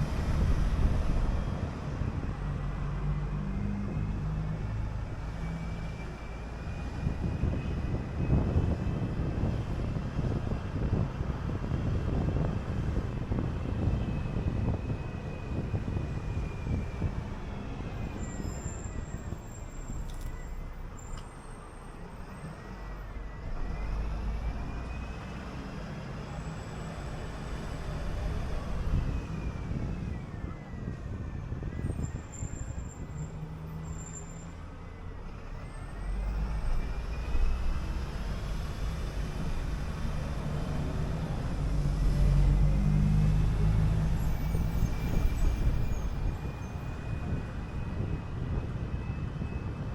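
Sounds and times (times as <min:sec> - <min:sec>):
bus engine and road rumble: 0:00.0 - 0:49.9
bus whine rising and falling: 0:00.0 - 0:49.9.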